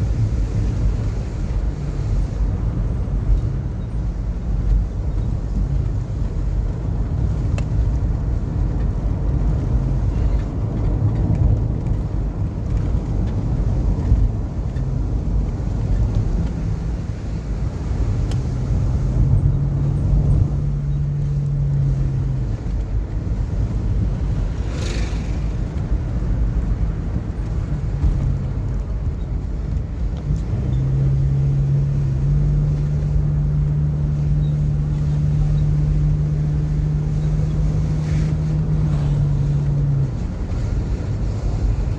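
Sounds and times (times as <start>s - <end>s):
car engine and road rumble: 0.0s - 41.9s.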